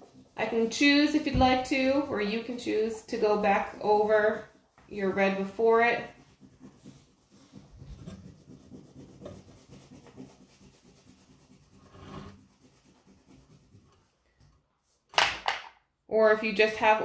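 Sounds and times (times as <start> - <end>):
crayon rubbing on paper: 0.0 - 14.0.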